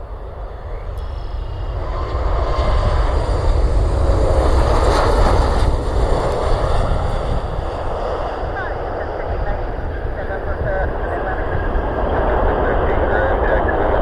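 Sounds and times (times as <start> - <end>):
jet airliner passing: 0.0 - 14.0.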